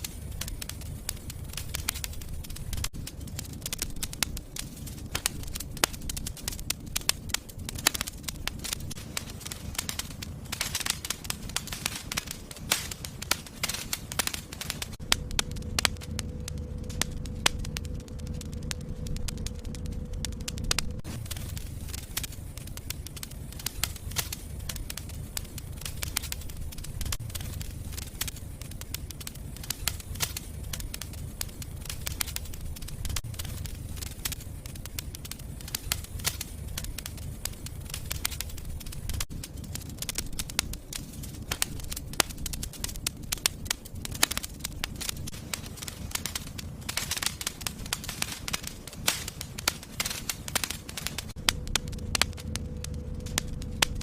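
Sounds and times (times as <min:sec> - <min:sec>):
fire crackling: 0:00.0 - 0:54.0
low fire rumble: 0:00.0 - 0:54.0.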